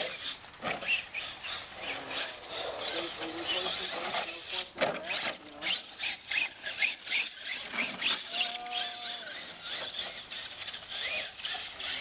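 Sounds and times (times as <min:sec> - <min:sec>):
toy truck motor revving: 0:00.0 - 0:12.0.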